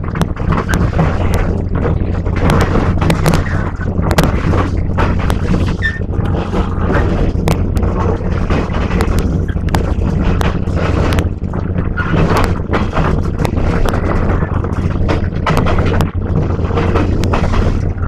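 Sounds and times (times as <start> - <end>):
train low rumble: 0.0 - 18.0
wheels knocking and rattling: 0.0 - 18.0.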